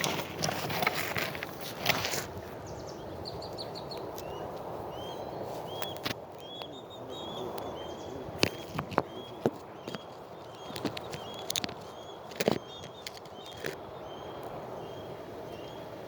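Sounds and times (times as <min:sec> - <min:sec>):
steady background noise: 0:00.0 - 0:16.0
bird chirping: 0:02.7 - 0:15.9.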